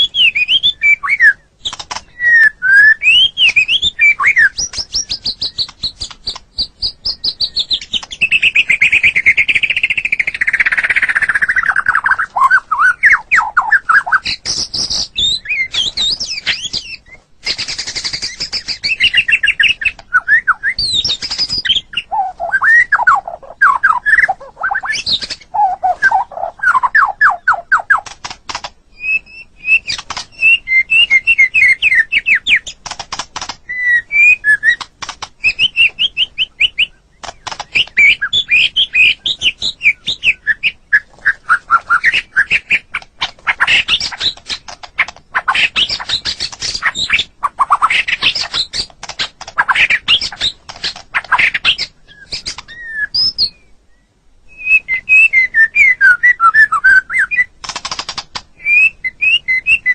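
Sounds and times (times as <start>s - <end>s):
songbird singing whistled phrases: 0.0s - 28.1s, 28.9s - 32.8s, 33.6s - 48.9s, 49.6s - 57.5s, 58.6s - 59.9s.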